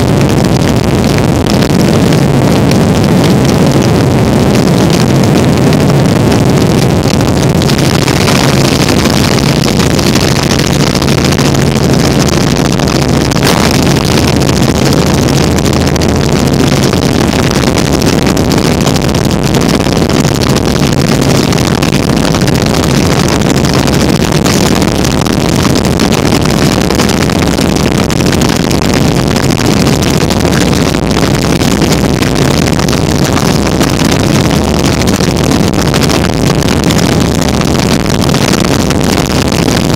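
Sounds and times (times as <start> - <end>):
low hum: 0.0 - 39.9
wind on microphone: 0.0 - 39.9.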